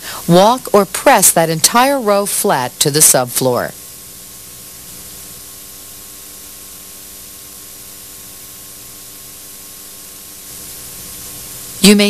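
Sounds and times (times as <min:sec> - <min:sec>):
faint hum: 0:00.0 - 0:12.0
tape hiss: 0:00.0 - 0:12.0.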